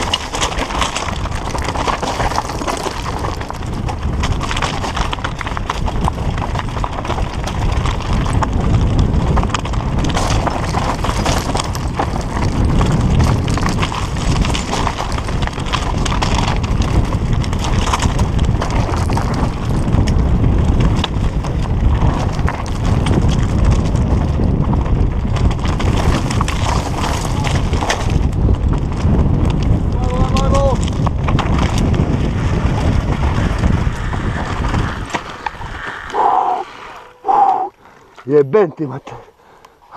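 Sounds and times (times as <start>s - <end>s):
bike rattling over rocks: 0.0s - 37.0s
wind and rolling rumble: 0.0s - 39.9s.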